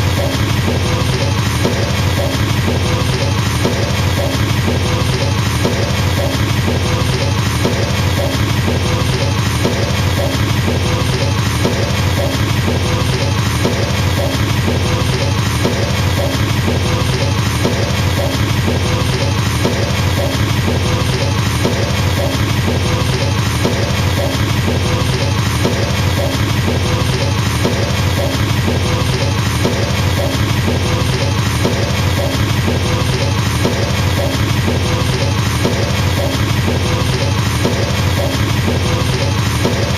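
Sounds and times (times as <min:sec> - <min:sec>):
drums accenting: 0:00.0 - 0:39.9
fast double bass drum: 0:00.0 - 0:39.9.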